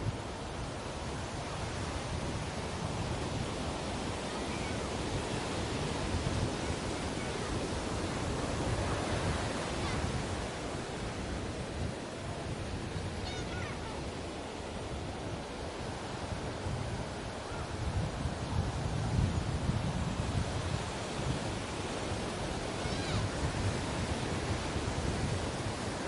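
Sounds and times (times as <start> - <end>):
sea waves washing onto beach: 0.0 - 26.0.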